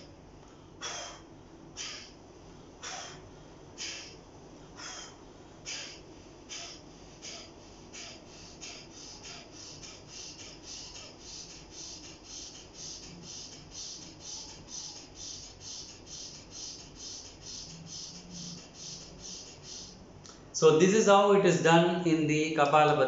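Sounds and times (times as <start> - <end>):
forceful nasal exhalations: 0.8 - 2.2, 2.8 - 20.0.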